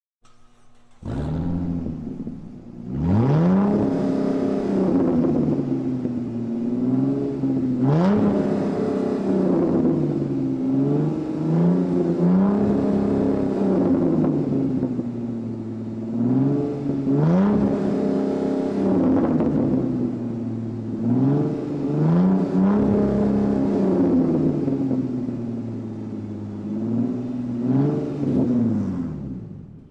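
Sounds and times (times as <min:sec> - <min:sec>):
car engine revving: 0:00.2 - 0:29.9.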